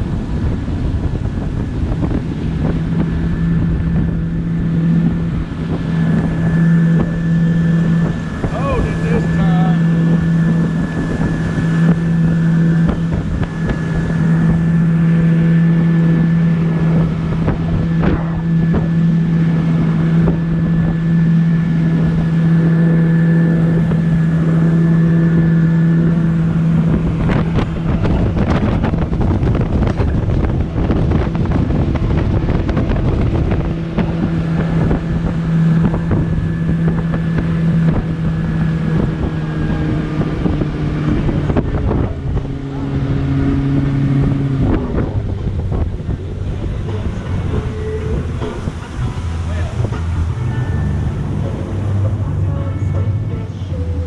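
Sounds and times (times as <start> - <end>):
motorboat engine hum: 0.0 - 54.0
wind on microphone: 0.0 - 54.0.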